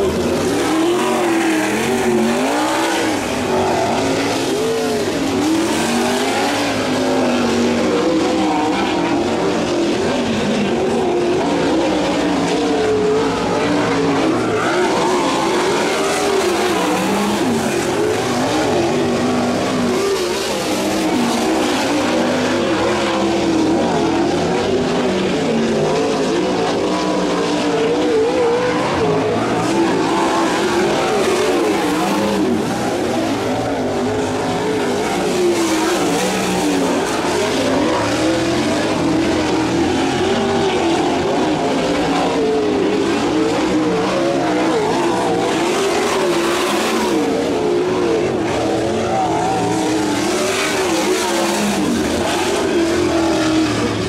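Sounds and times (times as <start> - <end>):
race car engine running laps: 0.0 - 54.0.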